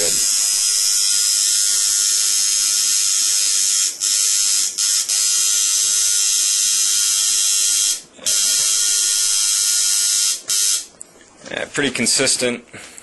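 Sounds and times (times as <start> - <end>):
tattoo machine buzzing: 0.0 - 10.9.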